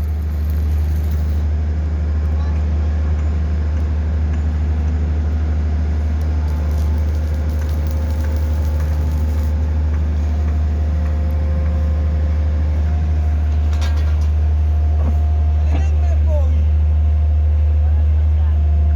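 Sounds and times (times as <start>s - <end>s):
pile driver engine drone: 0.0s - 18.9s.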